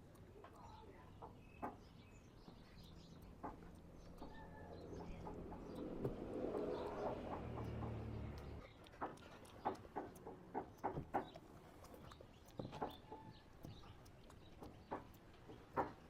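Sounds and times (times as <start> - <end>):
faint clicks of fur grooming: 0.0 - 16.0.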